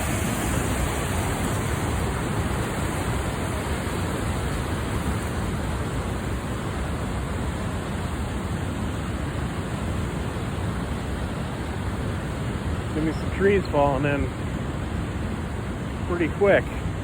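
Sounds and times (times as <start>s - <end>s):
heavy rushing water: 0.0s - 17.0s.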